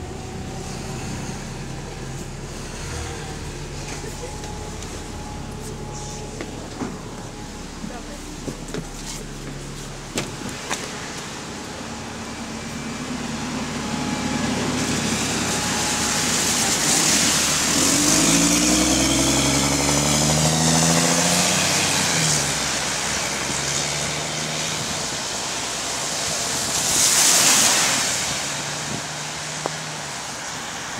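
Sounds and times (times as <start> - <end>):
bus engine accelerating: 0.0 - 30.9
car tyres hissing on wet road: 0.0 - 30.9.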